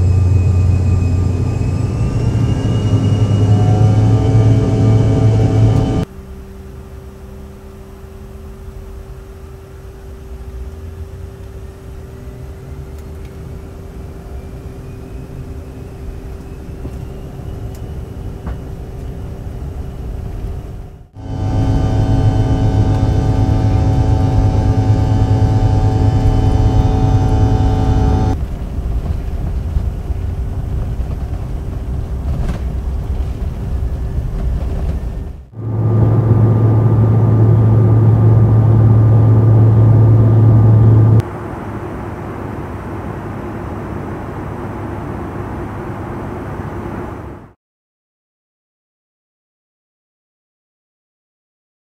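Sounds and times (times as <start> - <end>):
aircraft cabin noise: 0.0 - 6.1, 11.4 - 47.5
jet engines whining: 0.0 - 47.6.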